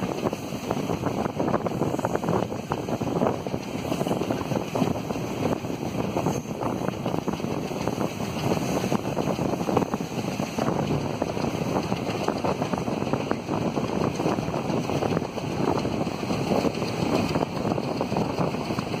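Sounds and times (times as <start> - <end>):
train rumble: 0.0 - 19.0
wheels clattering over rails: 0.0 - 19.0
wind on microphone: 0.0 - 19.0.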